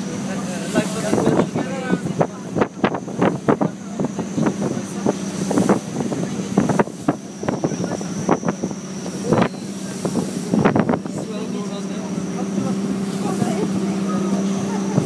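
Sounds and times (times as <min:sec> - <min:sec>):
boat engine humming: 0:00.0 - 0:15.0
water churning along hull: 0:00.0 - 0:15.0
wind buffeting microphone: 0:00.3 - 0:15.0.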